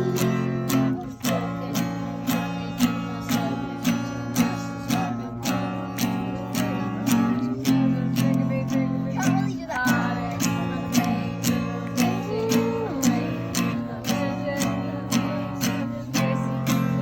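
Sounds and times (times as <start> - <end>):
acoustic guitar strumming: 0.0 - 17.0
people singing along: 0.0 - 17.0.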